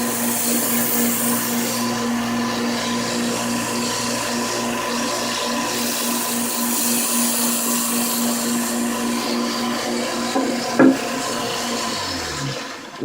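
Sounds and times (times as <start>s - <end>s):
belt grinder motor hum: 0.0s - 13.0s.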